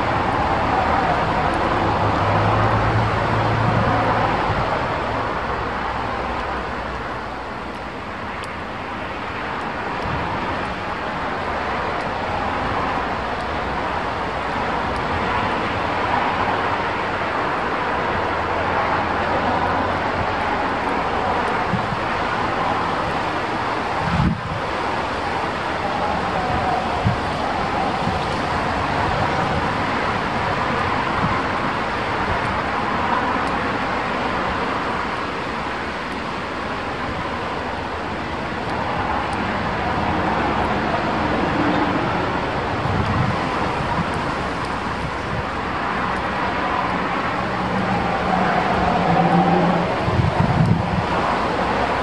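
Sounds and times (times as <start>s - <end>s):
strong wind buffeting microphone: 0.0s - 52.0s.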